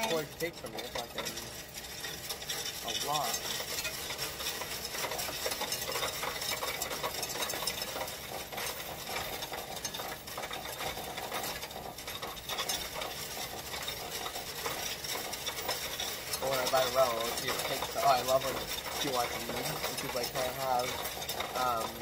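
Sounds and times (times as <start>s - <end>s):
coins rattling in counting machine: 0.0s - 22.0s.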